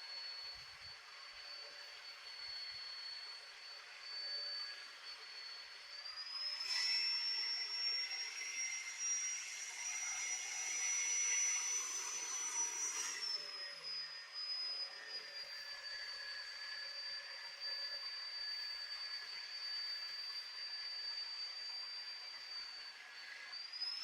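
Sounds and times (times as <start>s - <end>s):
saw motor high whine: 0.0s - 24.0s.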